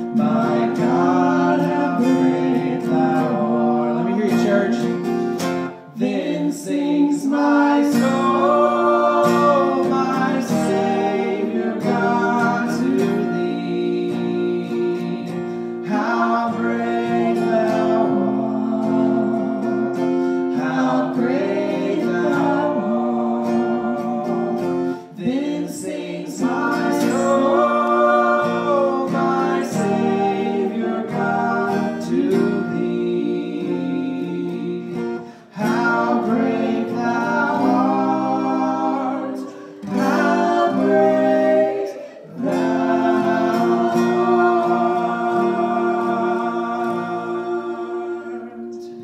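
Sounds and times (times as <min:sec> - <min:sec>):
man and women singing a hymn: 0:00.0 - 0:49.0
strummed acoustic guitar: 0:00.0 - 0:49.0.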